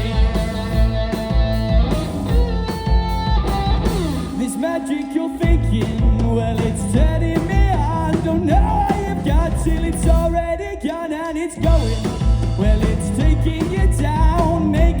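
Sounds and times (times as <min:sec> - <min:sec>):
person singing: 0:00.0 - 0:02.9, 0:04.2 - 0:15.0
bass: 0:00.0 - 0:04.5, 0:05.4 - 0:15.0
guitar: 0:00.0 - 0:15.0.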